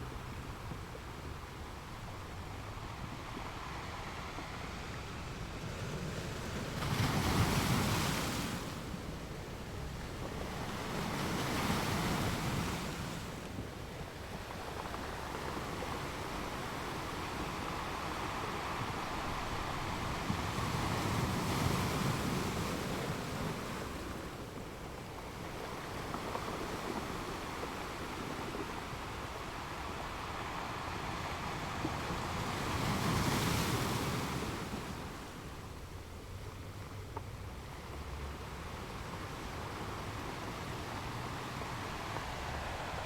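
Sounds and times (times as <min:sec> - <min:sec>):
ocean waves washing in: 0:00.0 - 0:36.4, 0:37.5 - 0:43.0.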